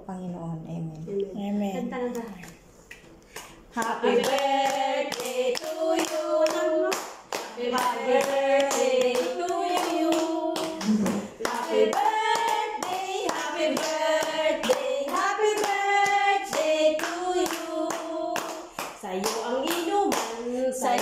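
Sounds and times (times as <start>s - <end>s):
hand claps: 2.9s - 21.0s
group singing a birthday song: 3.6s - 21.0s.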